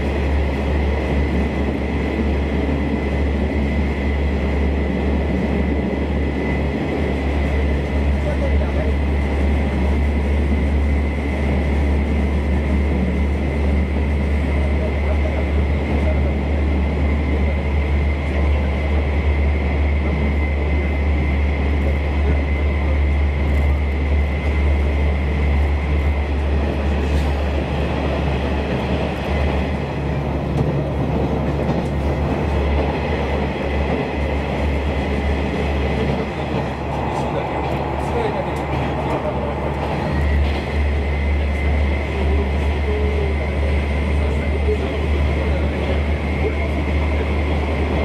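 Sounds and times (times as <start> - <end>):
train rumbling in tunnel: 0.0 - 48.0.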